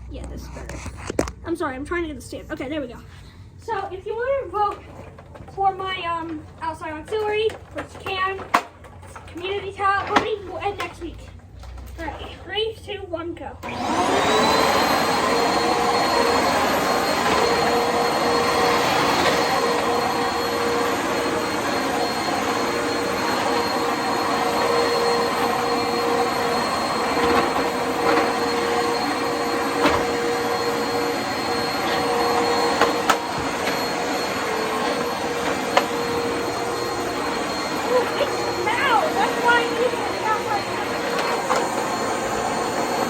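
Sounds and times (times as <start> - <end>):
vacuum cleaner running: 3.7 - 11.0, 13.6 - 43.0.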